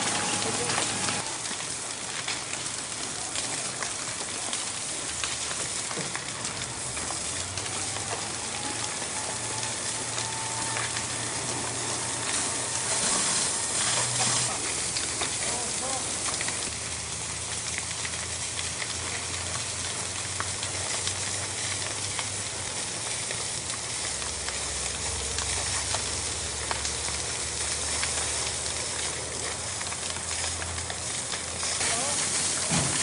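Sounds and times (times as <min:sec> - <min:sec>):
fire crackling: 0:00.0 - 0:33.0
hissing rush of water hose: 0:00.0 - 0:33.0.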